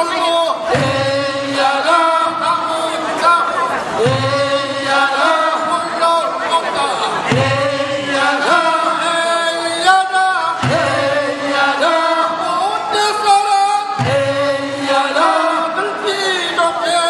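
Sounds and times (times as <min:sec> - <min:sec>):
men chanting a work song: 0:00.0 - 0:17.0.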